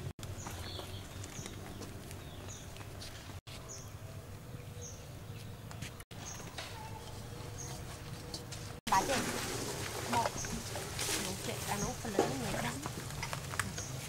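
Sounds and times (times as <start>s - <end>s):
small birds chirping: 0.0s - 8.8s, 10.0s - 14.0s.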